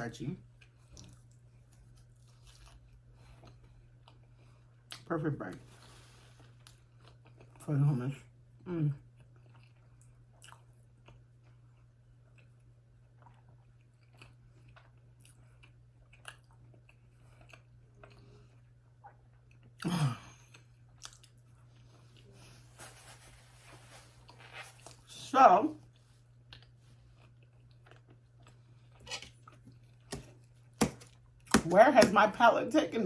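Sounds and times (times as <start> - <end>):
chewing soft bread: 0.4 - 25.1, 25.8 - 31.6.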